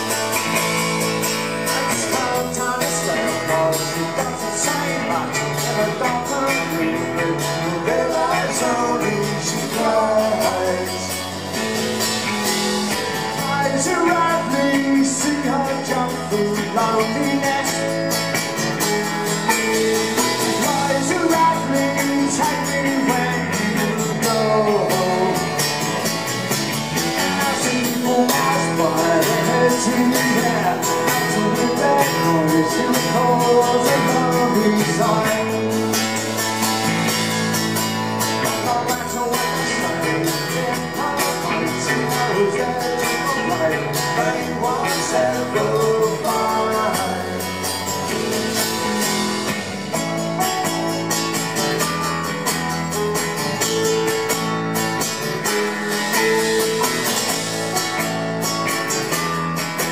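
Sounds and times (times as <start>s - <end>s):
acoustic guitar: 0.0s - 59.9s
drums: 0.0s - 59.9s
electric bass: 0.0s - 59.9s.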